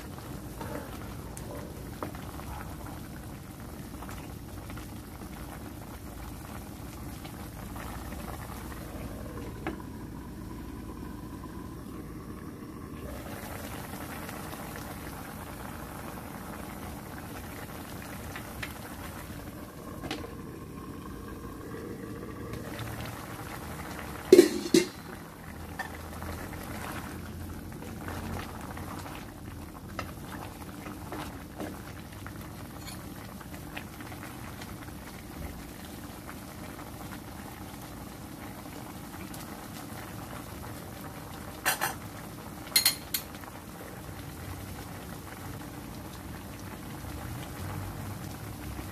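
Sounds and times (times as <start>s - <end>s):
food bubbling in a pan: 0.0s - 48.9s.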